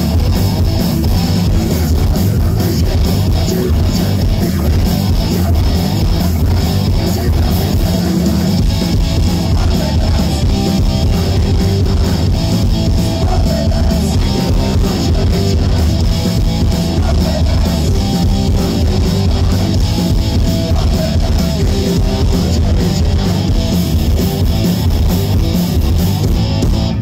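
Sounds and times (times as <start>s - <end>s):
distorted electric guitars: 0.0s - 27.0s
drum kit pounding: 0.0s - 27.0s.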